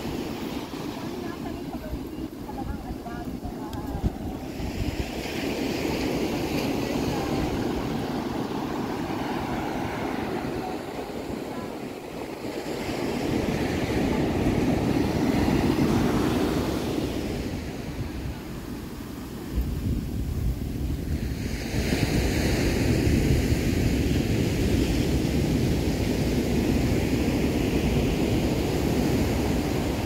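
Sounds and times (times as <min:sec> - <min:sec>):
ocean surf breaking on beach: 0:00.0 - 0:30.0
wind rumbling on microphone: 0:00.0 - 0:30.0.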